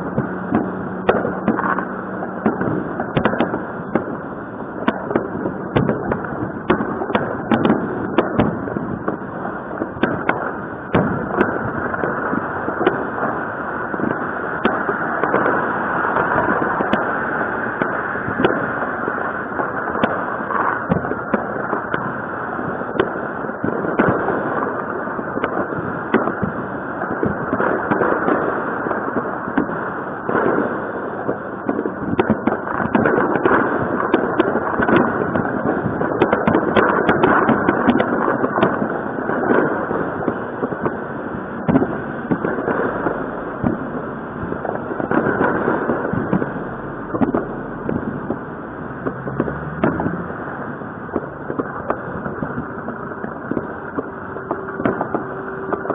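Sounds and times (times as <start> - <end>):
firecrackers crackling: 0.0 - 55.9.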